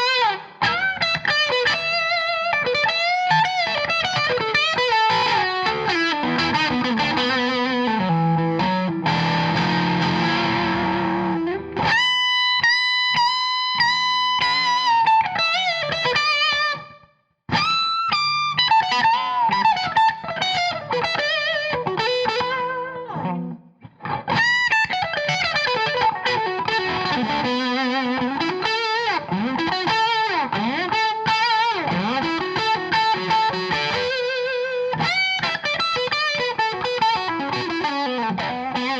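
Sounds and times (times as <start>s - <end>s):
electric guitar blues licks: 0.0s - 38.9s.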